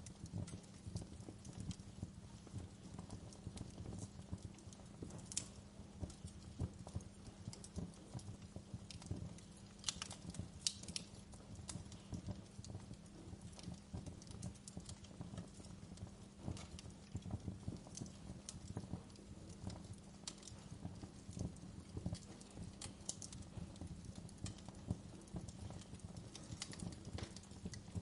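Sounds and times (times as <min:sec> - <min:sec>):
fireplace crackling: 0:00.0 - 0:28.0.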